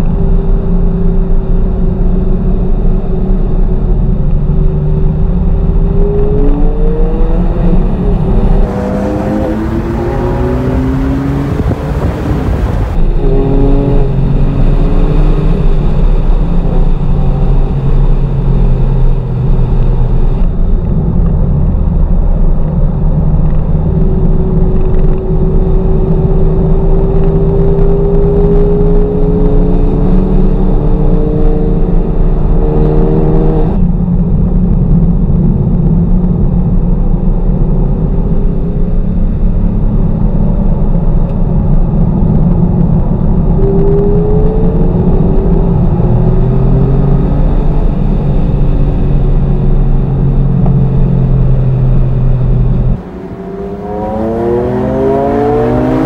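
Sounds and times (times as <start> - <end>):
car engine revving in cabin: 0.0 - 56.0
rushing noise: 1.2 - 56.0.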